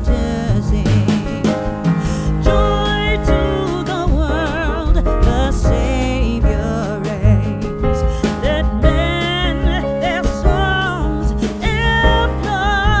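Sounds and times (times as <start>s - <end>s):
song with singing over a beat: 0.0s - 13.0s.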